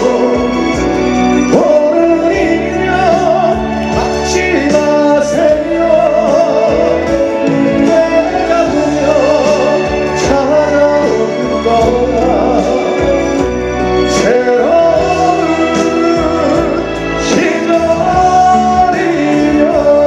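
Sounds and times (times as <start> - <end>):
live band playing slow ballad: 0.0 - 20.0
steady bass: 0.0 - 20.0.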